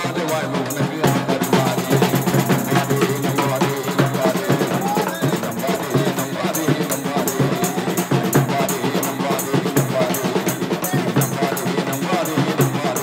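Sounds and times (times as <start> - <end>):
large drum beat: 0.0 - 13.0
man singing through microphone: 0.0 - 13.0
tambourine jingles: 0.0 - 13.0.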